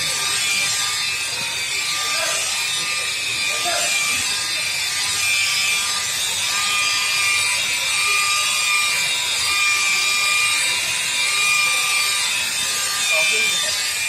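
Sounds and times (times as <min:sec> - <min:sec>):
rotary polisher motor whine: 0:00.0 - 0:14.0.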